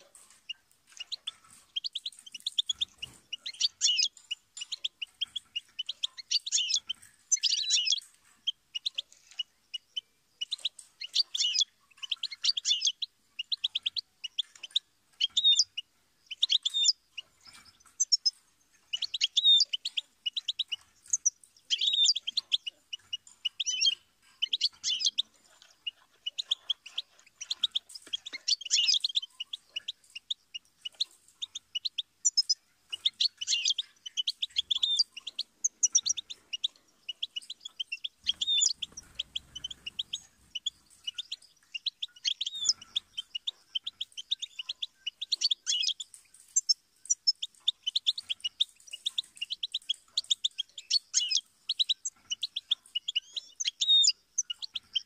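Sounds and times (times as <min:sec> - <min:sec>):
bird twittering song: 0:00.0 - 0:55.0.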